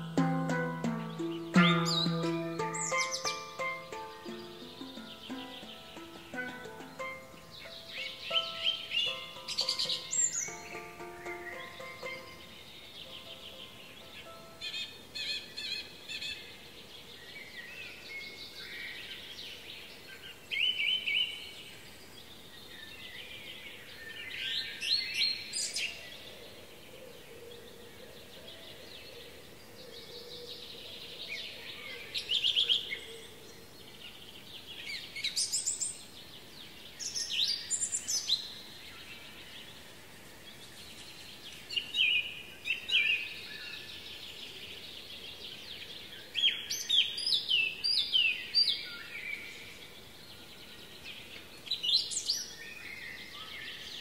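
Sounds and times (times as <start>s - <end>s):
faint high hiss: 0.0s - 54.0s
songbirds chirping and trilling: 0.0s - 54.0s.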